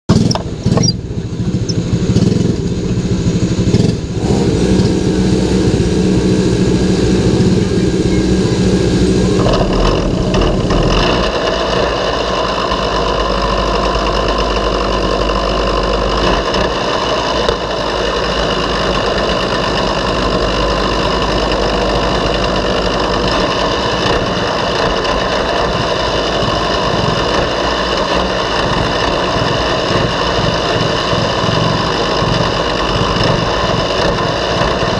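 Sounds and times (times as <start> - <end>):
go-kart engine idling: 0.1 - 34.9.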